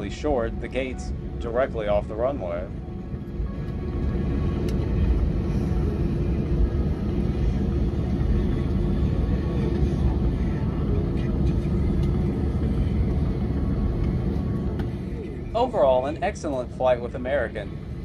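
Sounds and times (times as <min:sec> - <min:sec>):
jet engines idling in cabin: 0:00.0 - 0:18.0.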